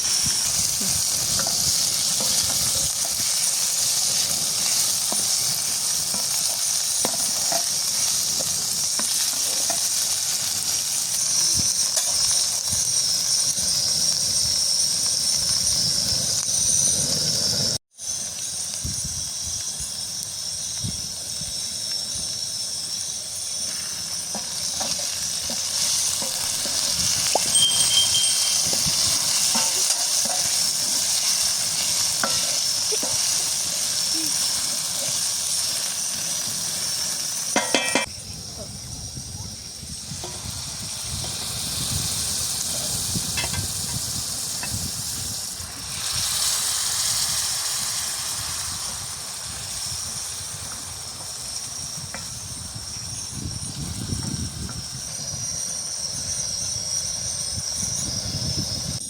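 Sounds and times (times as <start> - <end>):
food sizzling in a frying pan: 0.0 - 59.0.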